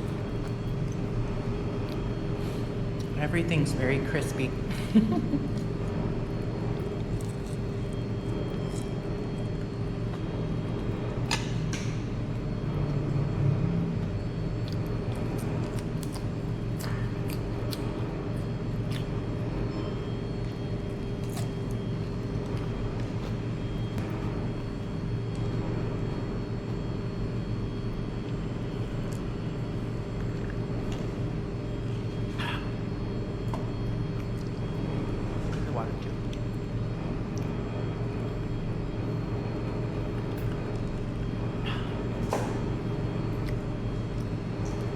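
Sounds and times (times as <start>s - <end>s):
low rumble and hum: 0.0s - 44.9s.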